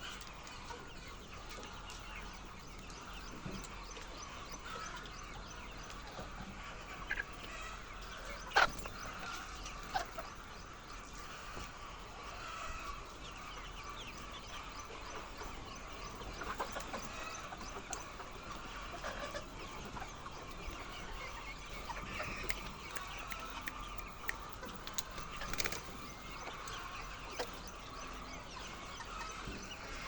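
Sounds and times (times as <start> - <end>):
hens clucking: 0.0 - 30.0.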